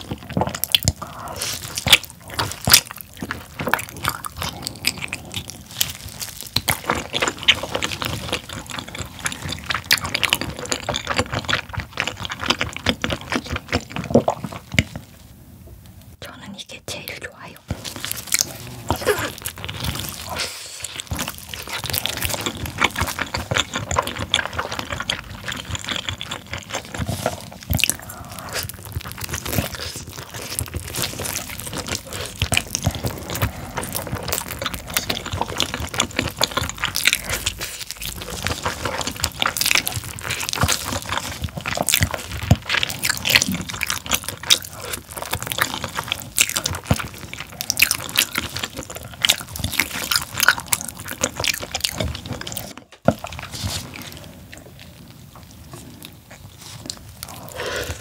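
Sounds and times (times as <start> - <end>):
wet eating sounds: 0.0 - 15.3, 17.6 - 58.0.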